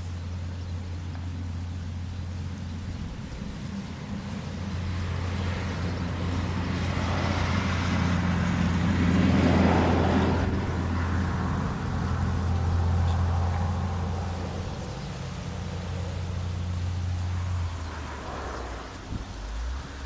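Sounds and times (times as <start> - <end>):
diesel locomotive engine drone: 0.0 - 20.0
train rumble: 0.0 - 20.0.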